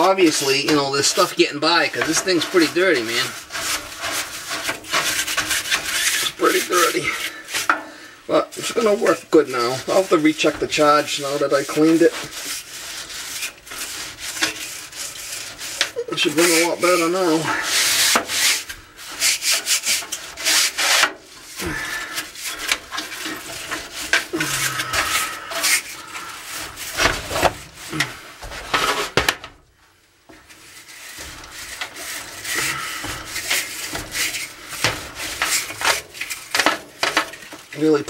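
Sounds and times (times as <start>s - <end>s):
brush scrubbing metal fins: 0.0s - 38.0s.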